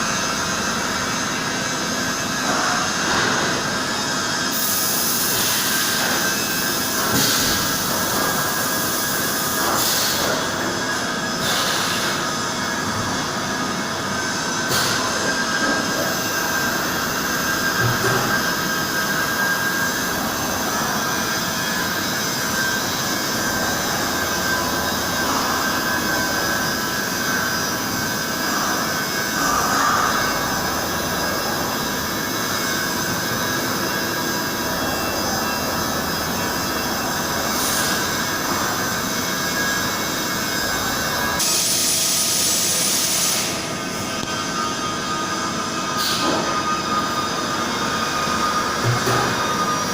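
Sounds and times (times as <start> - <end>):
milling machine spindle whine: 0.0 - 49.9.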